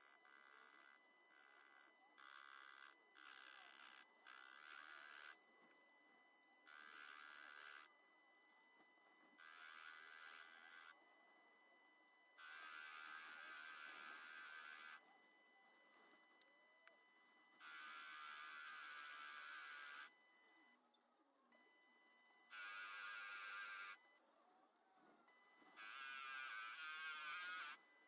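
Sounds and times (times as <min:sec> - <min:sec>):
faint steady whine: 0:00.0 - 0:28.0.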